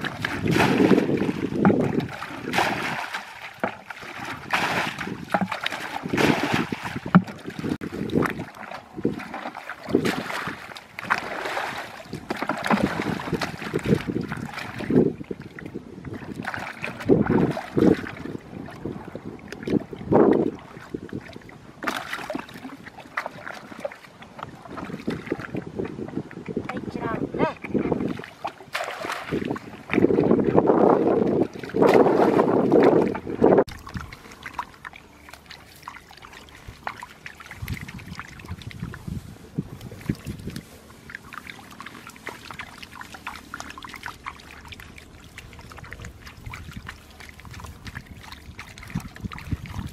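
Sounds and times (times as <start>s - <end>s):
muddy water sloshing and splashing: 0.0s - 49.9s.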